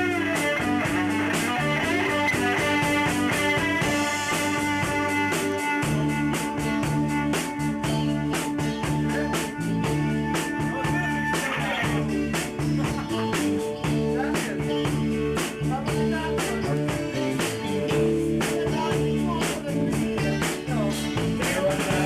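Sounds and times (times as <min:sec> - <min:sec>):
held guitar note: 0:00.0 - 0:19.4
guitar chords: 0:00.0 - 0:22.0
steady drum beat: 0:00.0 - 0:22.0.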